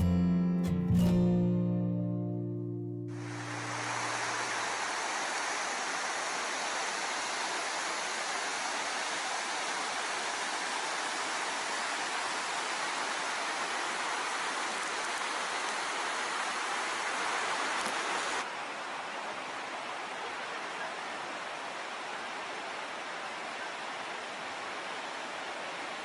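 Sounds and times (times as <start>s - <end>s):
river rushing over rapids: 3.1s - 26.0s.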